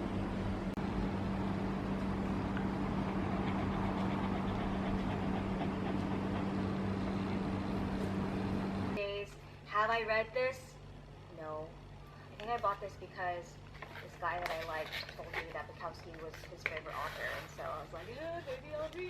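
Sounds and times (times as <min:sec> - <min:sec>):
mechanical hum and rumble: 0:00.0 - 0:19.0.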